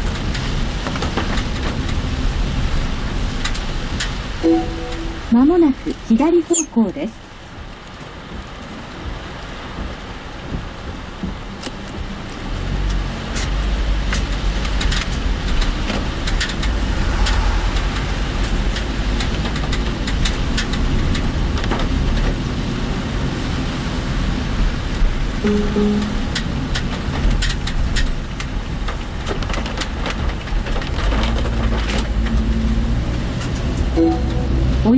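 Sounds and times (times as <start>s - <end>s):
heavy rain on car: 0.0s - 25.5s, 26.1s - 34.0s
engine and road rumble: 0.0s - 34.9s.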